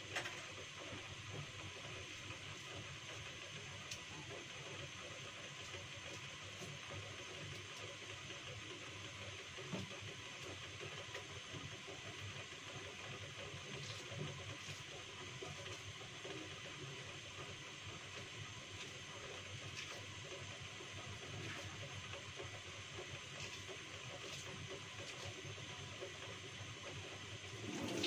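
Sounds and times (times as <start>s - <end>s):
soup bubbling in a saucepan: 0.3s - 28.0s.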